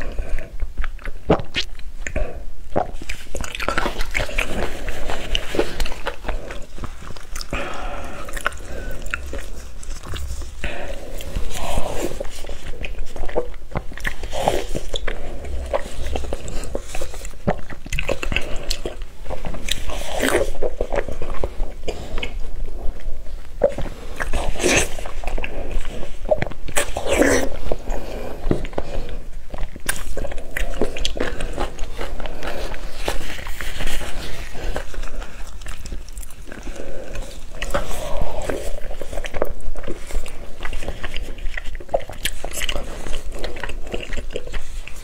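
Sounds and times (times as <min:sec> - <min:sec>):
lettuce crunching: 0:00.0 - 0:45.0
wet mouth sounds: 0:00.0 - 0:45.0.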